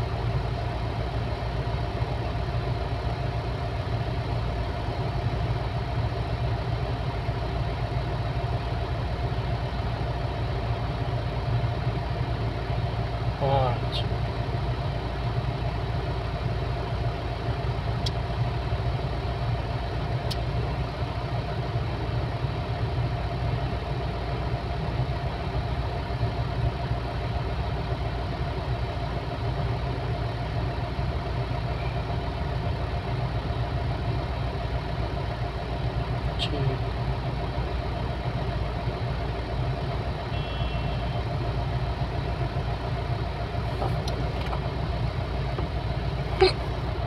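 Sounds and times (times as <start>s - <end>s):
large diesel engine running: 0.0s - 47.0s.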